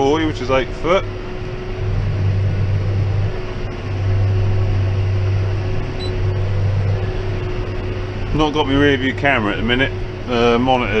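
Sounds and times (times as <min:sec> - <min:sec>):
faint steady whine: 0:00.0 - 0:11.0
tractor running: 0:00.0 - 0:11.0.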